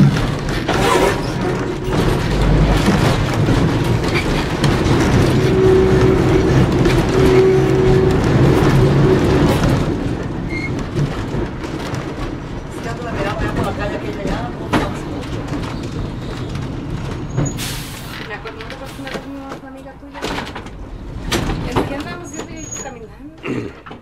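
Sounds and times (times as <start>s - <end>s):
streetcar wheels rumbling on rails: 0.0s - 24.0s.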